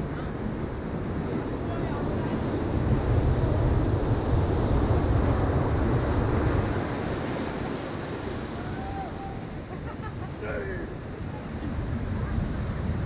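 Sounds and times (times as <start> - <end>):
ocean waves crashing: 0.0 - 13.0
wind rumbling on microphone: 0.0 - 13.0.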